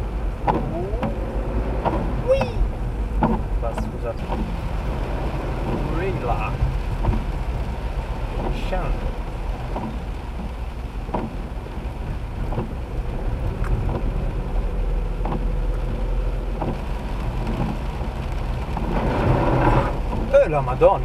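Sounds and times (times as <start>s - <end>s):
car engine and tyres rumbling: 0.0s - 21.0s
rain hiss: 0.0s - 21.0s
windscreen wiper knock: 0.3s - 21.0s.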